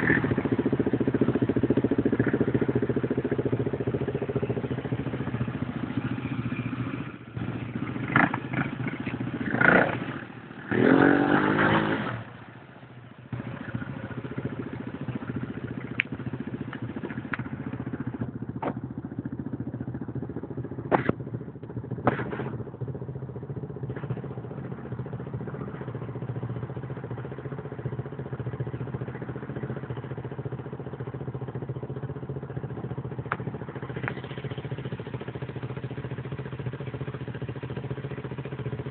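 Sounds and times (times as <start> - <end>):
small engine idling: 0.0 - 38.9.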